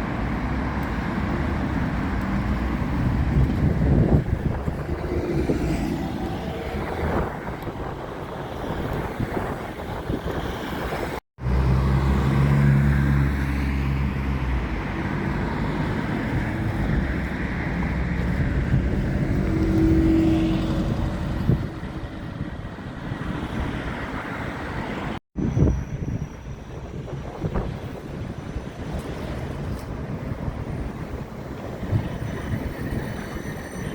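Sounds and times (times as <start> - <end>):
road traffic: 0.0 - 33.9.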